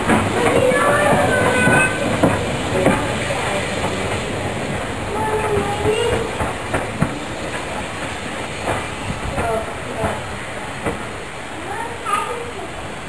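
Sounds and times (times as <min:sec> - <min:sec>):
steam locomotive running slowly: 0:00.0 - 0:13.0
wheels clanking over rail joints: 0:00.0 - 0:13.0.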